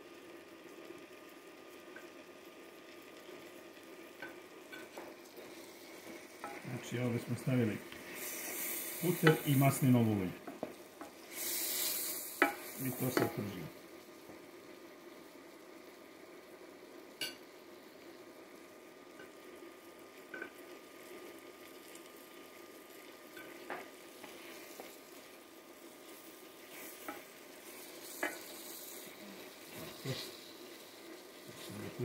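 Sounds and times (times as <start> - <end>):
meat sizzling in a pot: 0.0 - 32.0.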